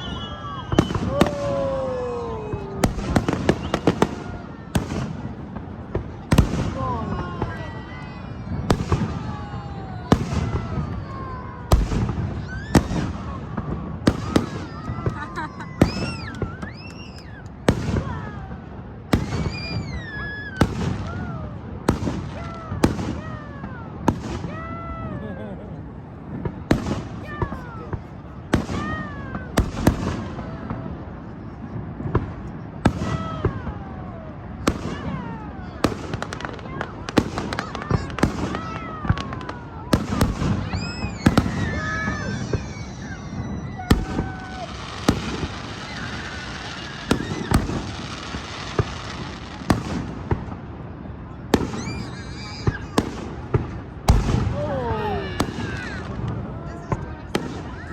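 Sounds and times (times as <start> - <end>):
fireworks bursting: 0.0 - 57.9.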